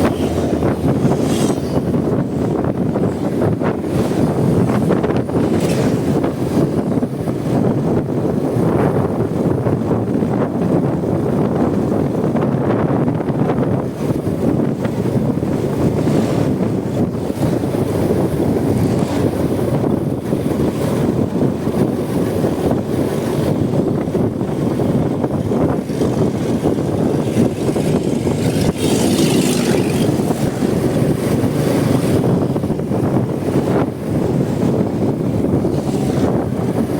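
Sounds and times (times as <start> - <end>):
motorcycle running at speed: 0.0 - 36.9
wind buffeting microphone: 0.0 - 36.9.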